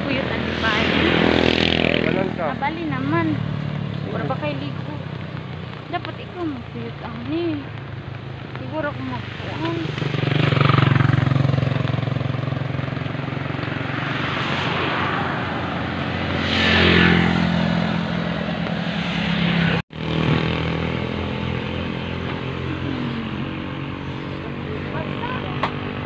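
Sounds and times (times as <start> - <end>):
road traffic engines: 0.0 - 26.0
vehicle passing: 0.0 - 26.0.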